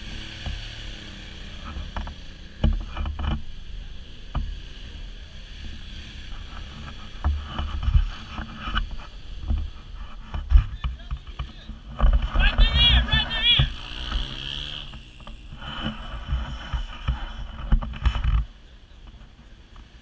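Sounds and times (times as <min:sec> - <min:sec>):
knocks and thumps over bumps: 0:00.0 - 0:20.0
muffled engine rumble: 0:00.0 - 0:20.0.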